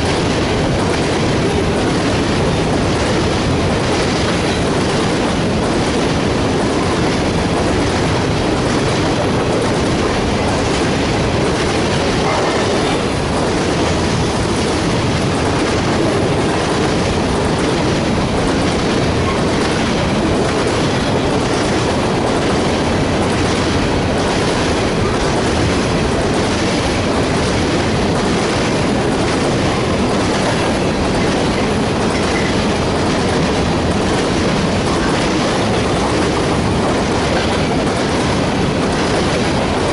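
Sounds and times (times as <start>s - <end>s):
freight train rolling past: 0.0s - 39.9s
wheels clacking over rail joints: 0.0s - 39.9s.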